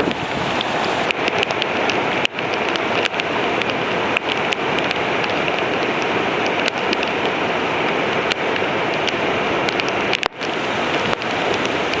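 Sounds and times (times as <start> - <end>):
raindrops ticking: 0.0 - 7.4, 8.1 - 12.0
river rushing: 0.0 - 12.0.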